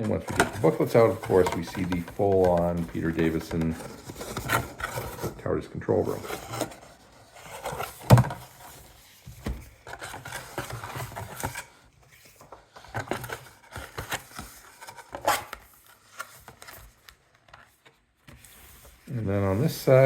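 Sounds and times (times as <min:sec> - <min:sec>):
cardboard sliding and rubbing: 0:00.0 - 0:20.0.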